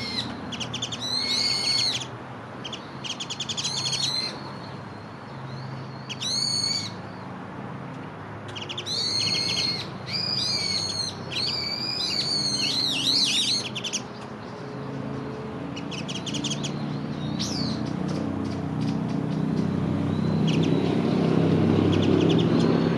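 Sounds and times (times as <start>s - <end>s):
songbirds harsh buzzy calls: 0.0s - 7.4s, 8.2s - 22.9s.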